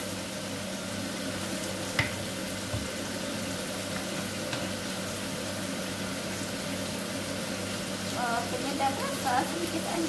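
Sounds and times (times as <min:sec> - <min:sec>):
livers sizzling in a frying pan: 0:00.0 - 0:10.0.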